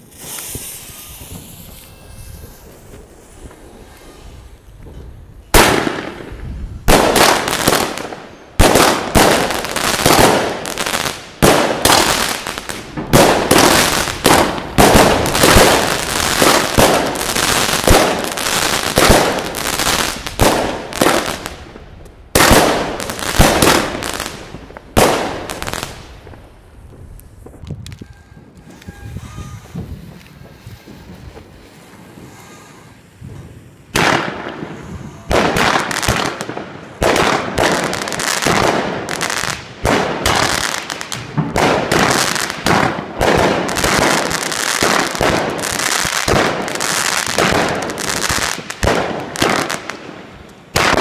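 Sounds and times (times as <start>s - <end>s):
firework bangs: 0.0s - 51.0s.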